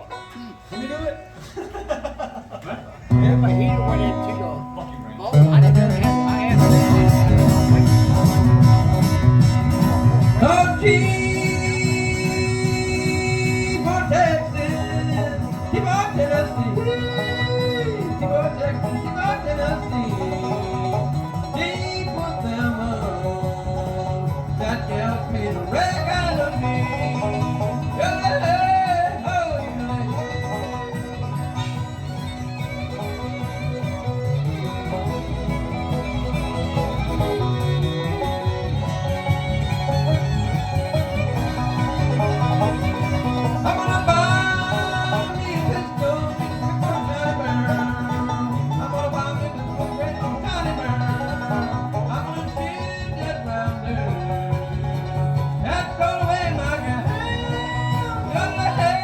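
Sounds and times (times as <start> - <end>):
banjo picking: 0.0 - 59.0
bluegrass band playing: 0.0 - 59.0
guitar picking: 3.0 - 59.0.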